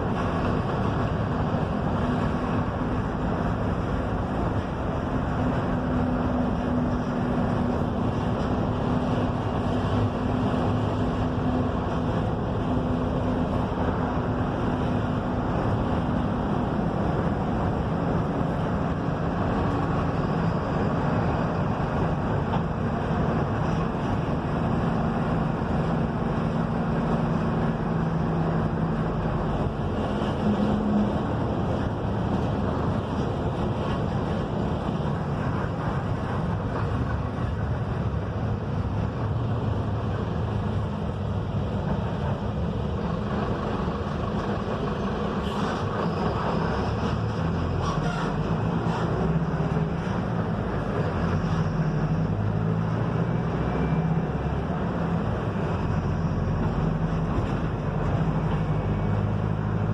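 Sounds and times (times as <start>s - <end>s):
bus engine hum: 0.0s - 59.9s
road and wind noise: 0.0s - 59.9s.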